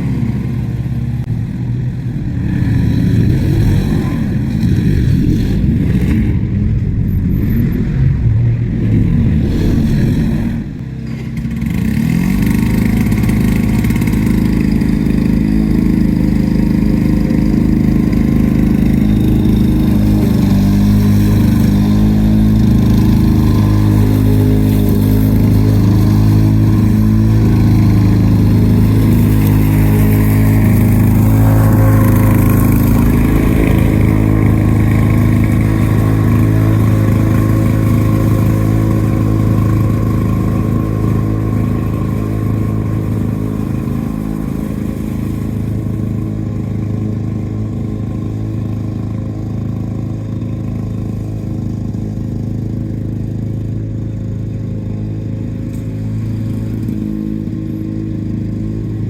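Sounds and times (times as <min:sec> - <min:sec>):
push mower engine running: 0:00.0 - 0:59.0.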